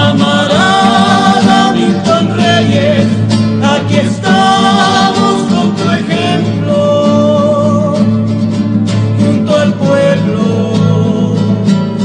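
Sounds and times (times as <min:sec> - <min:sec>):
acoustic guitar folk song: 0:00.0 - 0:12.0.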